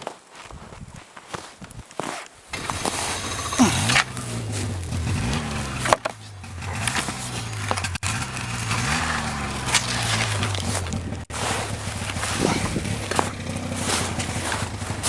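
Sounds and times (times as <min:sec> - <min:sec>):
snowmobile engine revving: 0:02.5 - 0:15.0.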